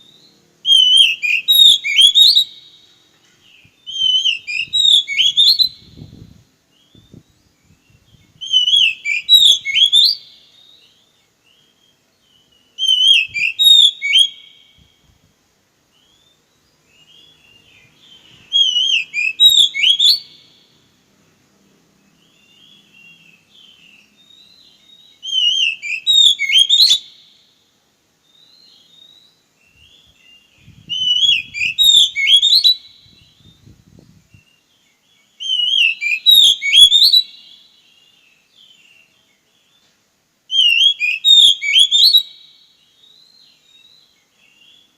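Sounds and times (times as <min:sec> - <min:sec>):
bird whistled warbling song: 0:00.0 - 0:15.2, 0:15.9 - 0:20.7, 0:22.1 - 0:27.5, 0:28.2 - 0:39.9, 0:40.5 - 0:44.9.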